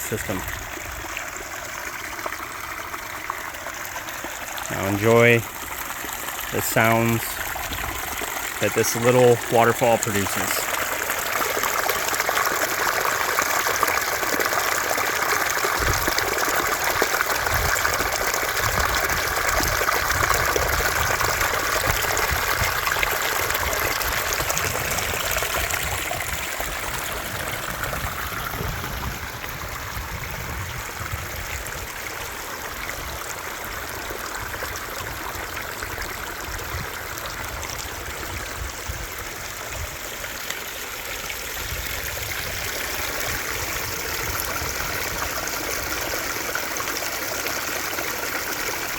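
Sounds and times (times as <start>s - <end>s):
water rushing over stones: 0.0s - 48.9s.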